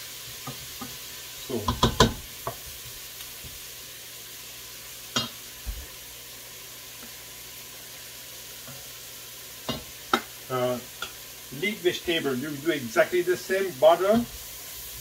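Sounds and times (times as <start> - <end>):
leeks sizzling in a pan: 0.0 - 15.0.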